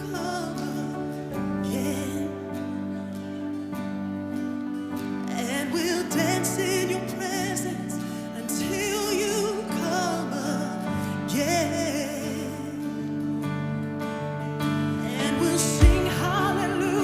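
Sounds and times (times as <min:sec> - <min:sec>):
person singing with vibrato: 0:00.0 - 0:03.7, 0:05.1 - 0:13.7, 0:14.8 - 0:17.0.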